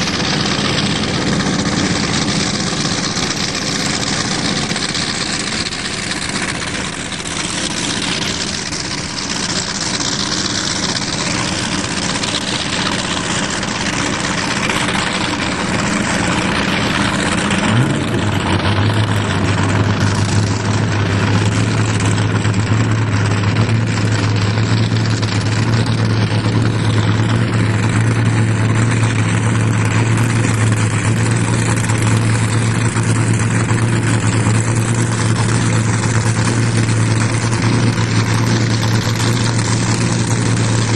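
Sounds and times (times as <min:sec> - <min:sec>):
motorboat engine running: 0:00.0 - 0:40.9
rush of wind and water: 0:00.0 - 0:40.9.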